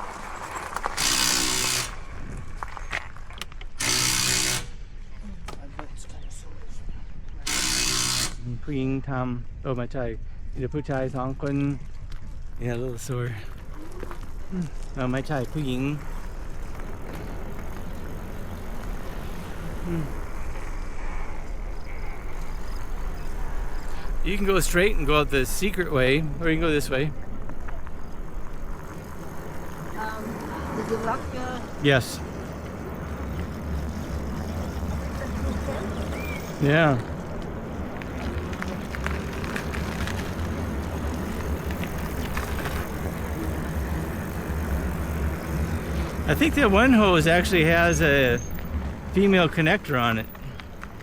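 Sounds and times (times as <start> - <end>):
bike clicks and rattles: 0.0 - 5.7, 7.3 - 8.5, 11.1 - 51.0
bicycle riding rumble: 0.0 - 51.0.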